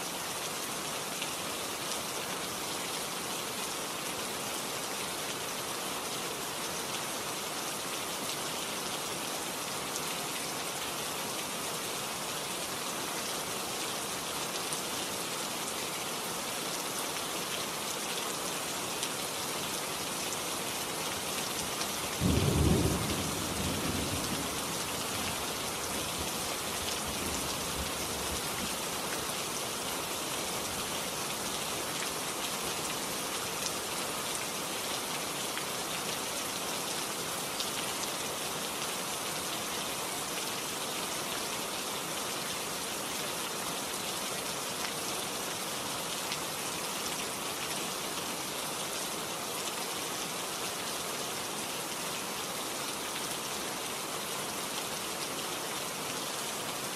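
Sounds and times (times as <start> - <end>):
rain-like hiss: 0.0 - 56.9.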